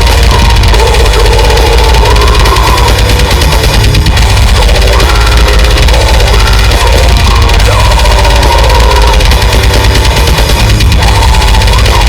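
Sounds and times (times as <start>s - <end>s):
loud music with distorted bass: 0.0s - 12.0s.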